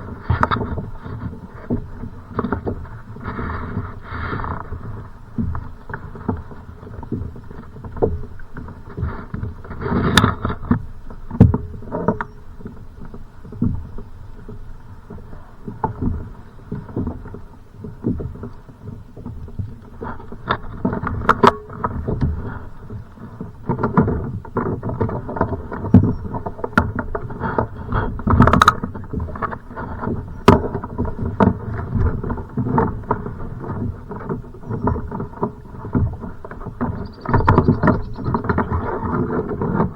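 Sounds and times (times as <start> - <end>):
water slapping against kayak hull: 0.0 - 39.9.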